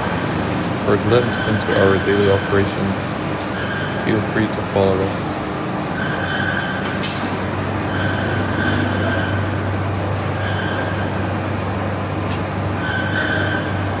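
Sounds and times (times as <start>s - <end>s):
constant high whine: 0.0s - 14.0s
machine squeal: 0.0s - 14.0s
machinery low hum: 0.0s - 14.0s.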